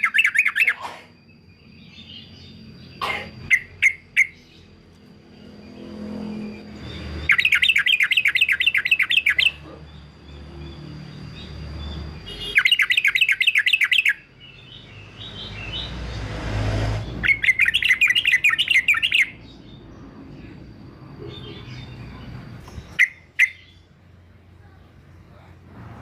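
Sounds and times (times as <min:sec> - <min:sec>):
bird chattering song: 0:00.0 - 0:16.3, 0:17.0 - 0:25.2.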